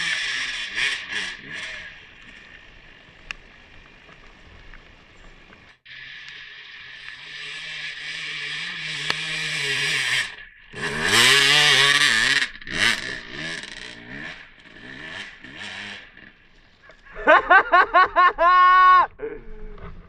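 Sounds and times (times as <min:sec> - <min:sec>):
dirt bike engine revving: 0:00.0 - 0:18.3.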